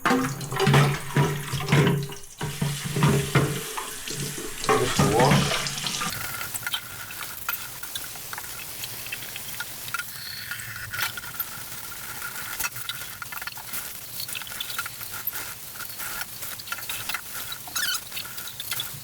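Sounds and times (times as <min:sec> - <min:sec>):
water and steam sizzling: 0:00.0 - 0:19.0.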